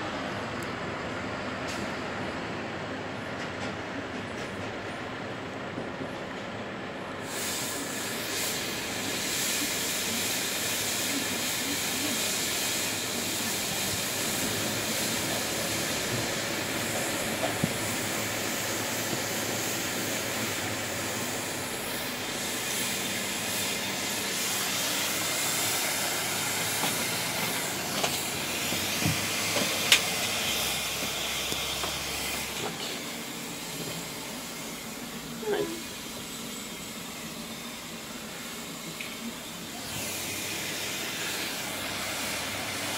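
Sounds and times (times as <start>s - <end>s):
street-cleaning truck hissing: 0.0s - 42.9s.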